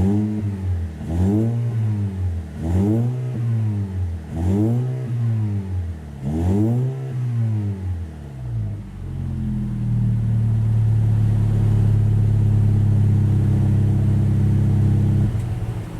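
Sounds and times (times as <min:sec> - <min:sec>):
turbocharged car engine revving: 0:00.0 - 0:08.2, 0:09.9 - 0:15.9.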